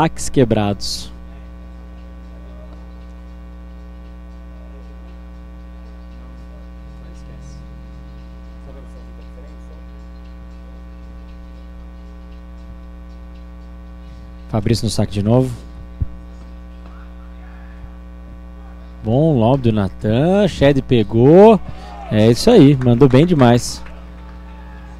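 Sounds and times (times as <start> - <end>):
electrical mains hum: 0.0 - 24.9.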